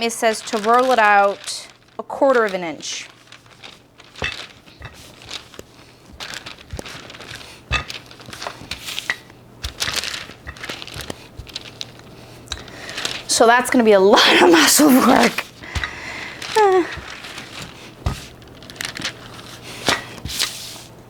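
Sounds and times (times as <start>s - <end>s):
plastic sheet crinkling: 0.0s - 21.0s.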